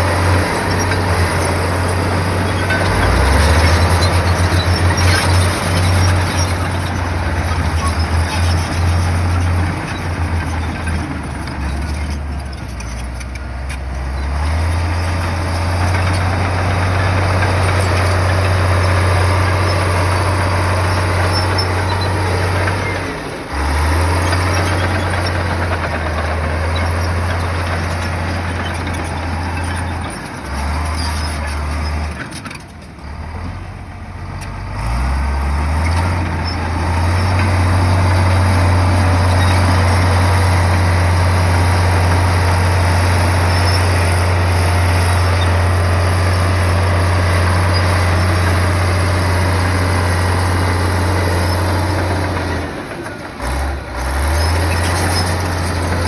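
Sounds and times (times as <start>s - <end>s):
heavy machine diesel engine drone: 0.0s - 56.0s.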